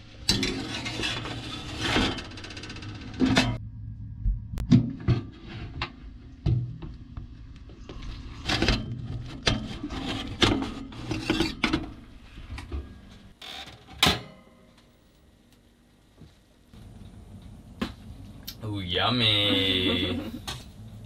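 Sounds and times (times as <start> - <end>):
low steady hum: 0.0 - 13.4, 14.2 - 21.0.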